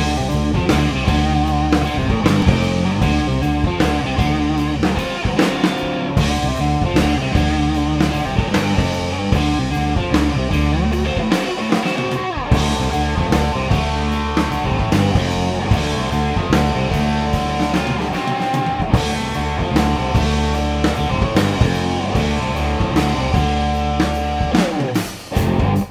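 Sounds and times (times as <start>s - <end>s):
bass guitar: 0.0s - 25.9s
drum kit beat: 0.0s - 25.9s
guitar riff: 0.0s - 25.9s.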